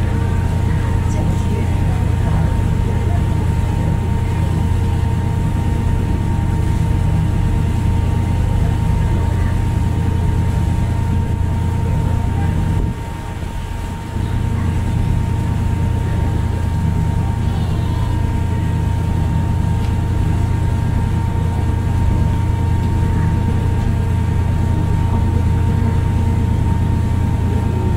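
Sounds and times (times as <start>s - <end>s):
ferry engines droning: 0.0s - 27.9s.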